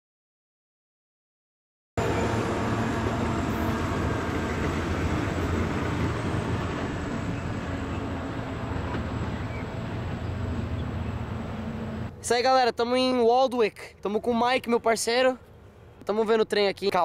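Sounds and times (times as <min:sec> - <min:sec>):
diesel train engine drone: 0:02.0 - 0:16.2
rail noise: 0:02.0 - 0:17.0.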